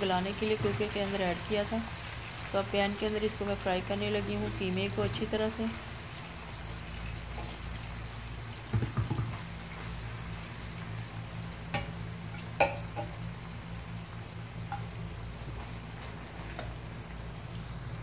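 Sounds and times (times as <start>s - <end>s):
low steady hum: 0.0s - 18.0s
meat sizzling in oil: 0.0s - 18.0s.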